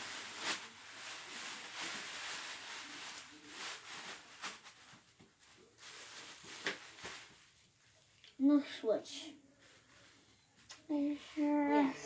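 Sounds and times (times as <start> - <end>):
plastic bags rustling and crinkling: 0.0 - 7.9, 8.5 - 12.0.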